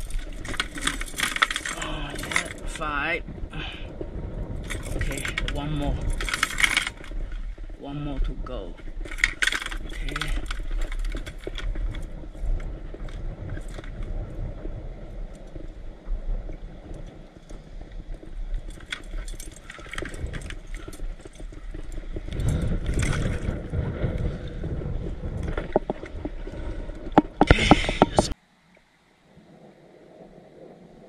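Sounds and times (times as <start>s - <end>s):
low steady rumble: 0.0s - 28.4s
water lapping at a kayak: 0.0s - 31.0s.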